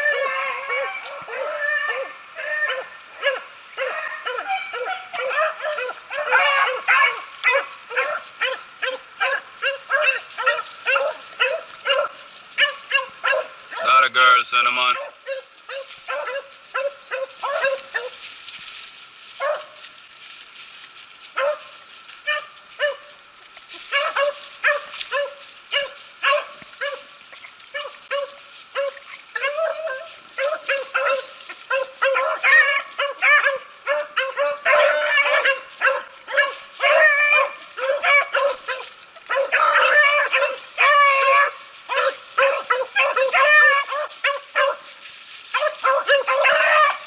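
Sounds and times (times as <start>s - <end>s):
beagles baying: 0.0s - 18.2s, 21.4s - 47.0s.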